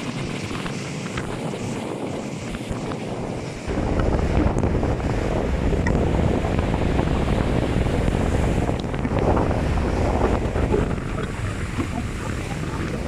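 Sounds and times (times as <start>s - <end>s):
gusting wind buffeting microphone: 0.0s - 13.0s
rough sea surf: 0.0s - 13.0s.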